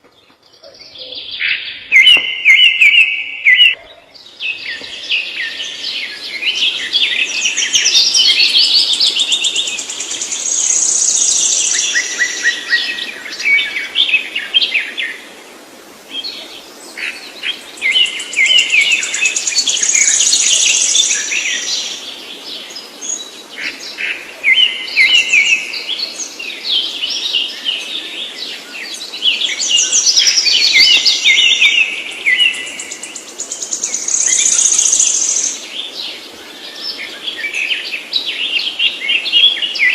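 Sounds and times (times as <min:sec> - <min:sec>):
songbird singing with trills: 0:00.0 - 0:15.2, 0:17.2 - 0:39.9.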